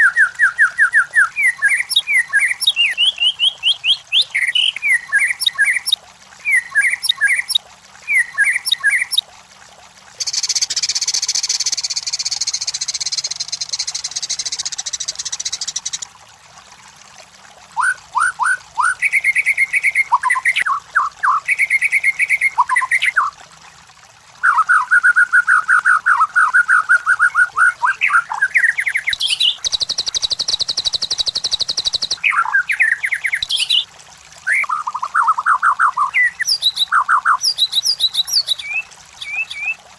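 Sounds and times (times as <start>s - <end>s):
songbird singing whistled chirps: 0.0s - 9.2s, 10.2s - 16.1s, 17.8s - 23.3s, 24.4s - 39.8s.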